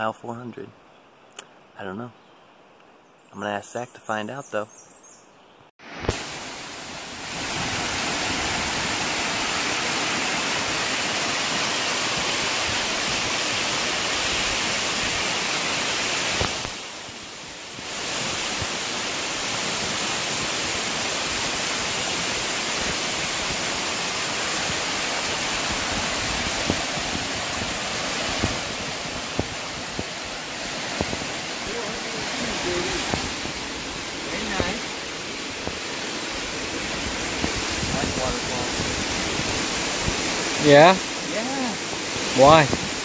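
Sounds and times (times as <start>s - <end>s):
waterfall roaring: 5.8s - 43.0s.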